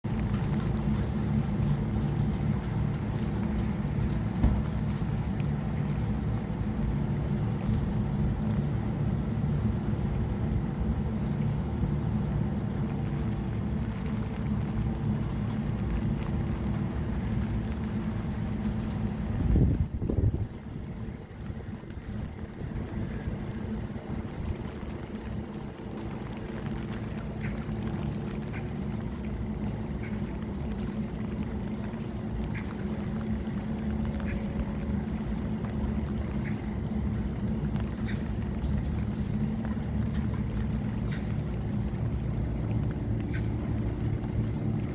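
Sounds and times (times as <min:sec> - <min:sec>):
rain falling and dripping: 0:00.0 - 0:44.9
ventilation fan hum: 0:00.0 - 0:44.9.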